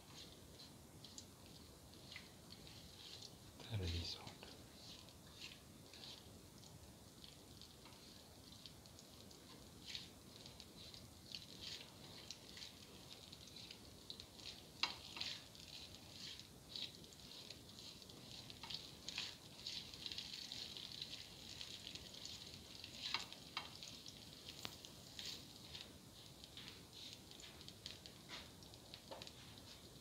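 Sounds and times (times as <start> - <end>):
ginger frying in oil: 0.0 - 30.0
spatula stirring: 0.0 - 30.0.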